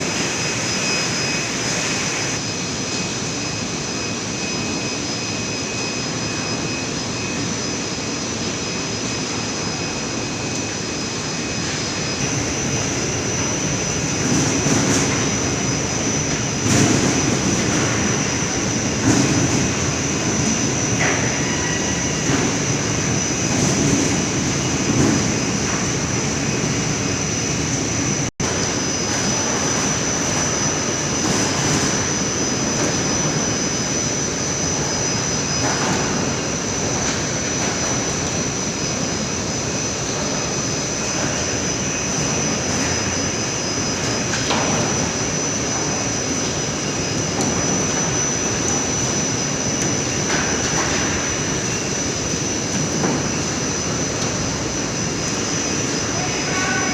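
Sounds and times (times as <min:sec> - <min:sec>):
processing machines droning: 0:00.0 - 0:56.9.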